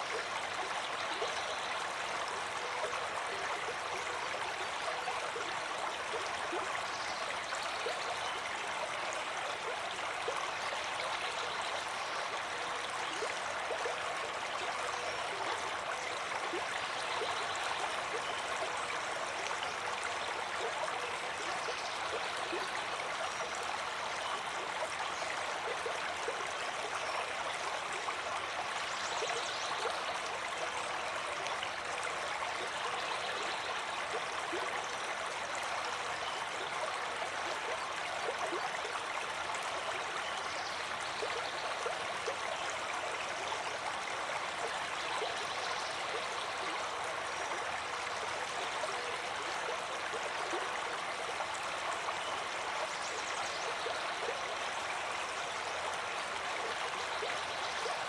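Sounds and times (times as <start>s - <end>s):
stream water gurgling and splashing: 0.0s - 58.0s.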